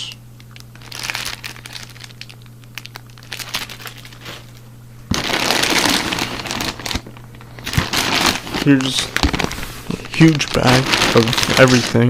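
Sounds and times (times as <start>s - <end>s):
plastic bags crinkling: 0.4s - 12.0s.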